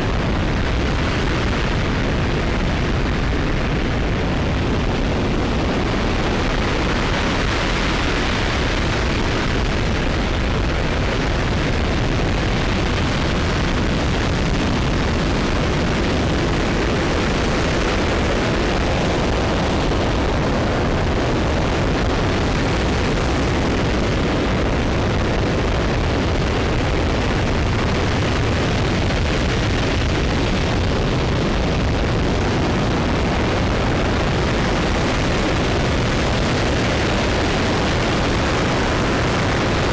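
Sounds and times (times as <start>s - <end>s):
rocket engine roaring: 0.0s - 39.9s.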